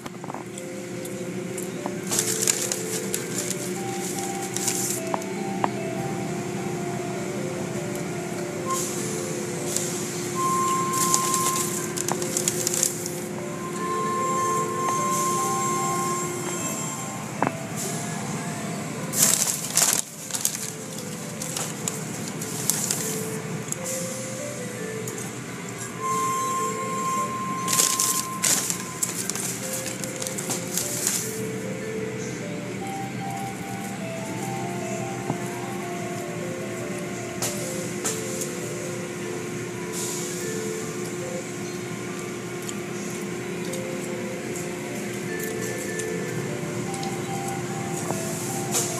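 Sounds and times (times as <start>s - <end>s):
car wash machinery rumble: 0.0s - 48.9s.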